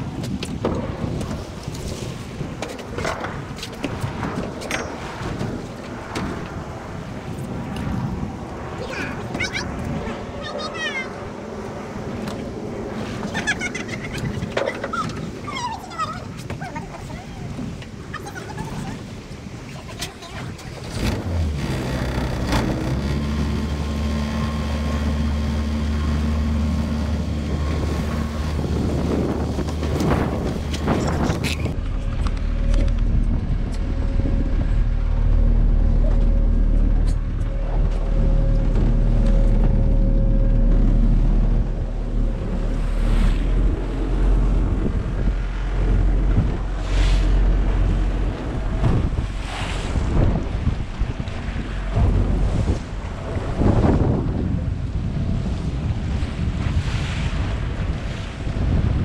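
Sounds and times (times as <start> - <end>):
wind buffeting microphone: 0.0 - 59.0
boat engine droning: 3.2 - 59.0.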